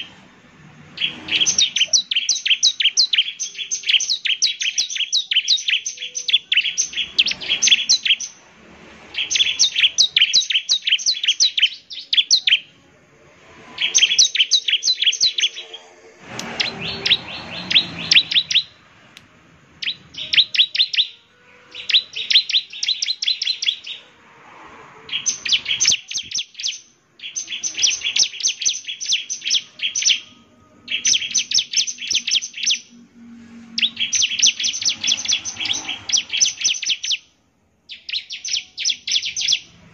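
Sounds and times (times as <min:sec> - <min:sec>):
bird singing high chirps: 0:00.0 - 0:12.9, 0:13.5 - 0:18.9, 0:19.8 - 0:24.2, 0:25.0 - 0:39.9.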